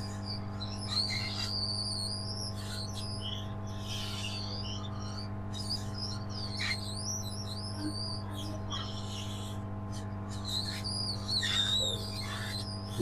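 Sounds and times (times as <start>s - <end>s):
high wavering chirps: 0.0s - 13.0s
hot-air rework station humming: 0.0s - 13.0s.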